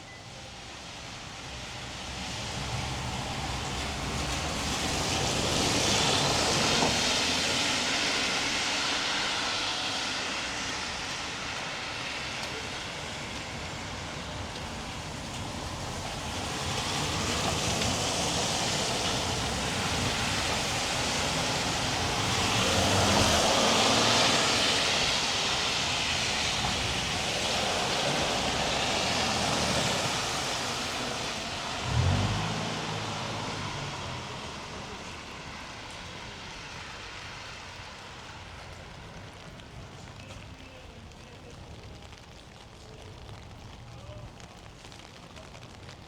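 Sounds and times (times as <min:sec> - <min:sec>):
tyres hissing on wet road: 0:00.0 - 0:46.0.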